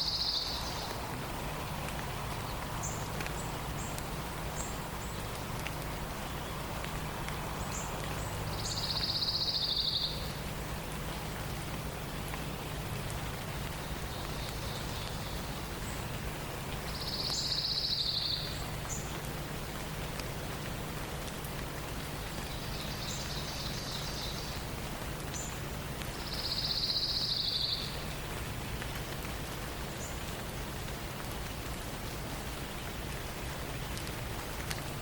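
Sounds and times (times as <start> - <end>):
steady hiss with low hum: 0.0 - 35.0.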